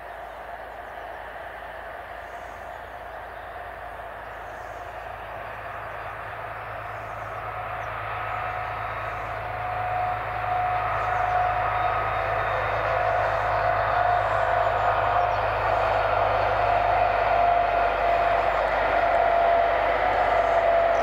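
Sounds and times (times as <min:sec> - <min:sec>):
diesel locomotive engine: 0:00.0 - 0:21.0
steady whine: 0:00.0 - 0:21.0.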